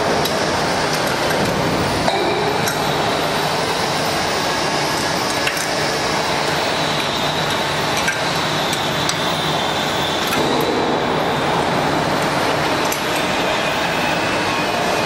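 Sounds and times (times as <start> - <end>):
mixer motors running: 0.0 - 15.0.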